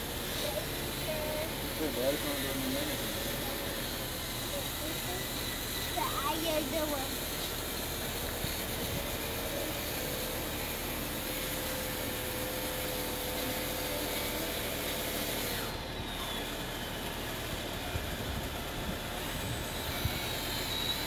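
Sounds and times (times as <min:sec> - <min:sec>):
motor and hydraulic pump whine: 0:00.0 - 0:21.0.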